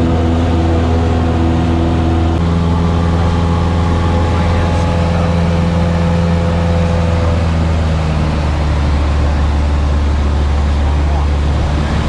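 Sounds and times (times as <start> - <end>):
light airplane engine droning: 0.0 - 12.0.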